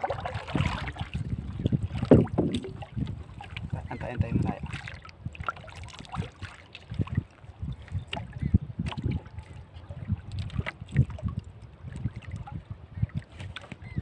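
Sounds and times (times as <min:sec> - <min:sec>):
water lapping against boat hull: 0:00.0 - 0:14.0
wind on microphone: 0:00.0 - 0:14.0.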